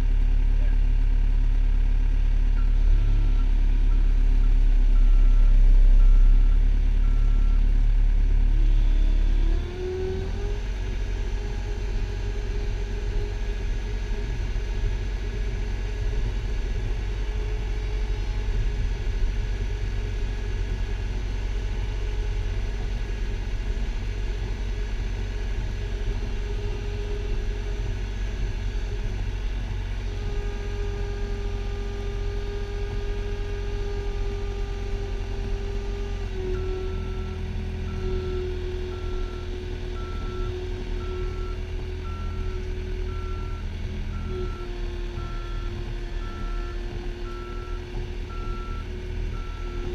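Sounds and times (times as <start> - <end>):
loader engine running: 0.0 - 49.9.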